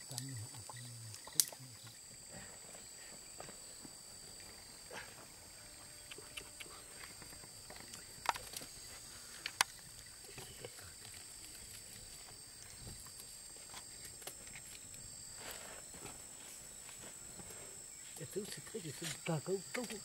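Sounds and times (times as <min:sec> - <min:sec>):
high insect trilling: 0:00.0 - 0:20.0.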